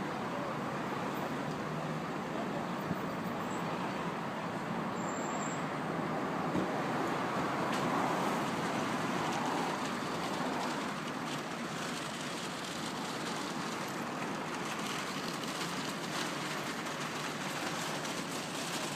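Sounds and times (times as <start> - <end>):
road traffic noise: 0.0 - 18.9.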